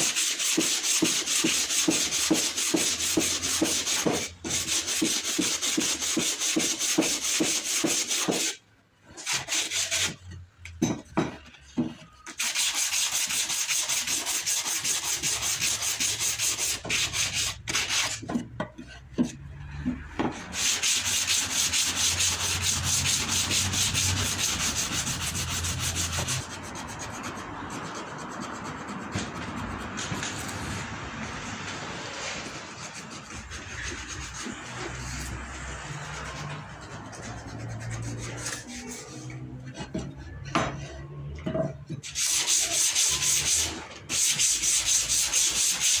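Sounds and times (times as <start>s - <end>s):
sandpaper rasping on wood: 0.0s - 10.2s, 12.3s - 18.4s, 20.4s - 30.8s, 32.2s - 39.8s, 42.0s - 46.0s.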